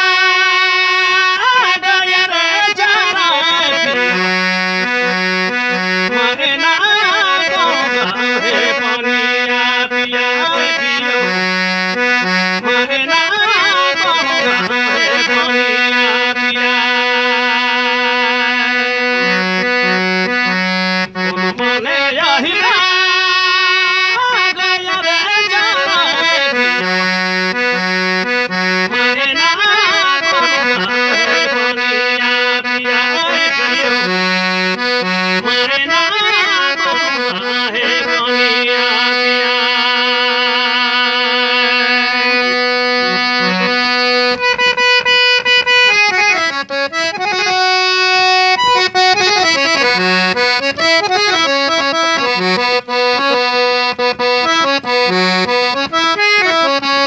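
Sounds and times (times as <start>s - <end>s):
harmonium melody: 0.0s - 57.0s.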